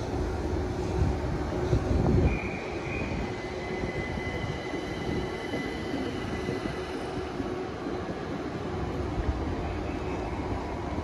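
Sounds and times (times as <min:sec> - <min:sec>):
electric train whine: 0:00.0 - 0:11.0.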